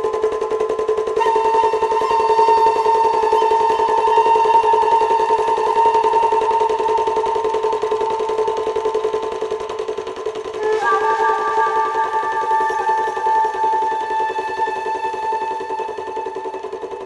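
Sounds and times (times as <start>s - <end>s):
background music held notes: 0.0s - 17.0s.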